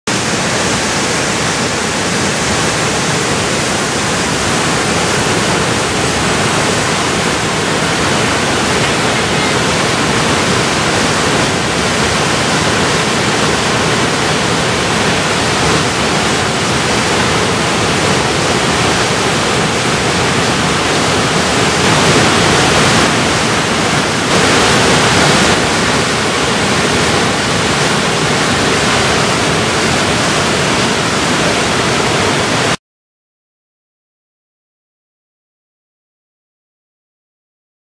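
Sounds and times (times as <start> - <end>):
waterfall rushing: 0.1 - 32.8.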